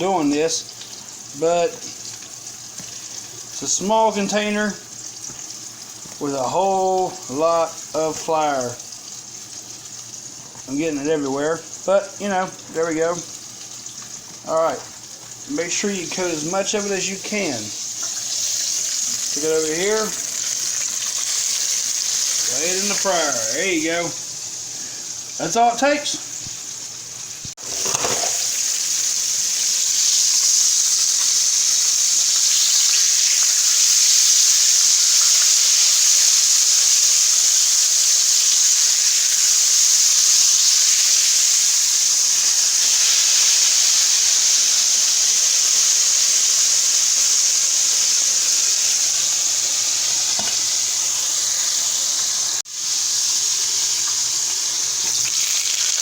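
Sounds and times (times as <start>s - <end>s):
oil sizzling around frying steak: 0.0s - 56.0s.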